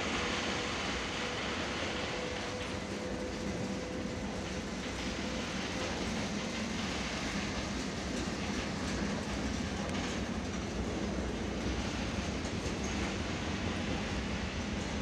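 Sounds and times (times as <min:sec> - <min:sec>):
train wheels rumbling on rails: 0:00.0 - 0:15.0
clacks over rail joints: 0:01.8 - 0:15.0.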